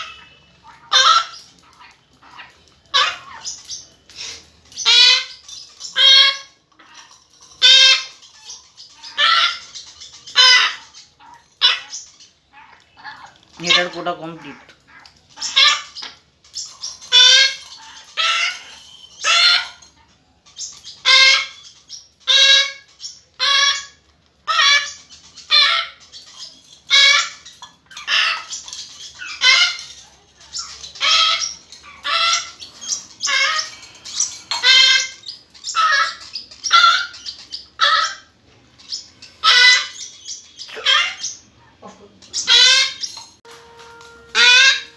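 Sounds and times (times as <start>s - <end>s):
parrot chicks squawking: 0.0s - 43.5s, 44.3s - 44.9s.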